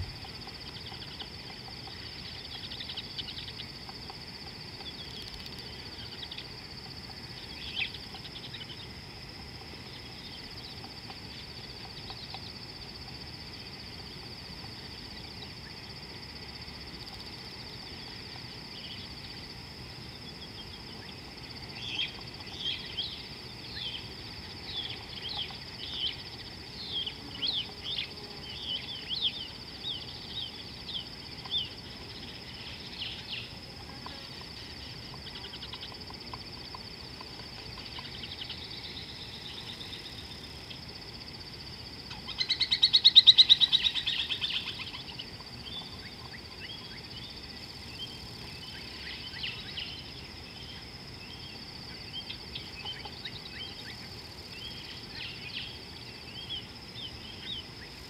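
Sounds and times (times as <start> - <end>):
steady high-pitched whine: 0.0 - 58.0
wild birds chirping: 0.0 - 58.0.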